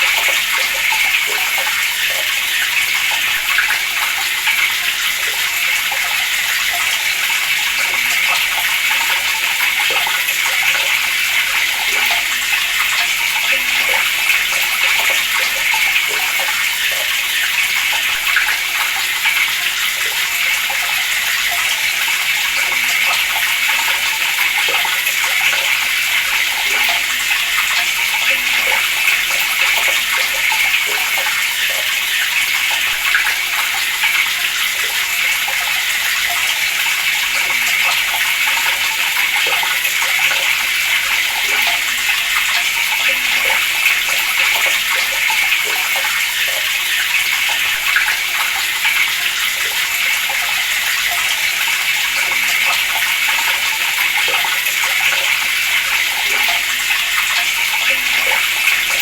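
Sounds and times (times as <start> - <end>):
water running from a tap: 0.0 - 59.0.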